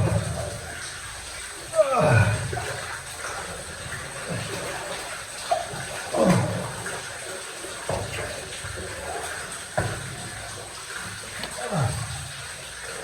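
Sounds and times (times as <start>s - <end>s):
running water echoing in cave: 0.0s - 13.0s.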